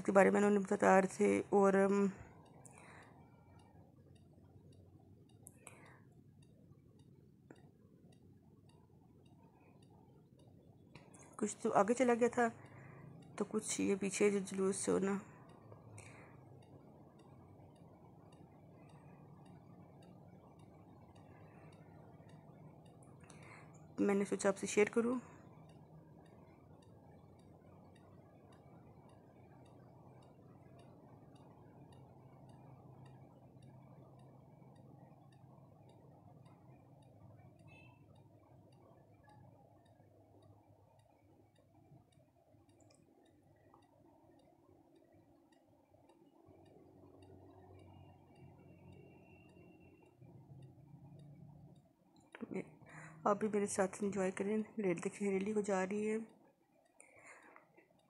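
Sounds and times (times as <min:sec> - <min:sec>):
faint low hum: 0:00.0 - 0:58.0
faint ticks: 0:00.0 - 0:58.0.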